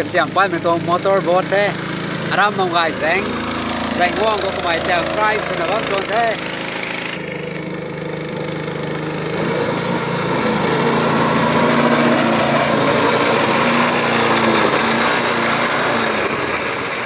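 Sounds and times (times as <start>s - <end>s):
motor boat engine: 0.0s - 17.0s.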